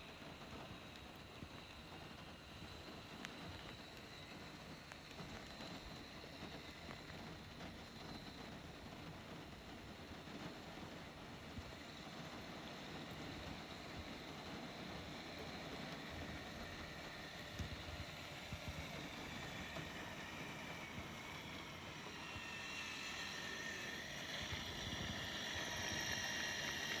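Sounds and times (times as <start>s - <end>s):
electric motor and gear whine: 0.0s - 27.0s.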